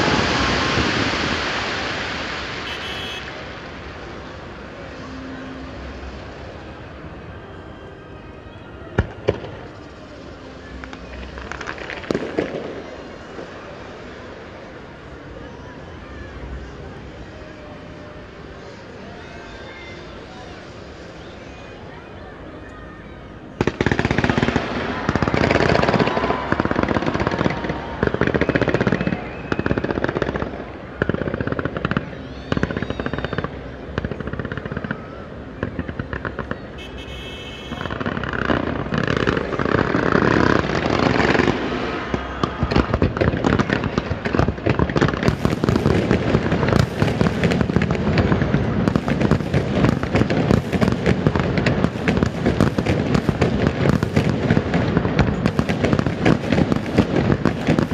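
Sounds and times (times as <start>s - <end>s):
fireworks bangs and crackle: 0.0s - 7.6s, 8.7s - 22.1s, 23.3s - 57.9s.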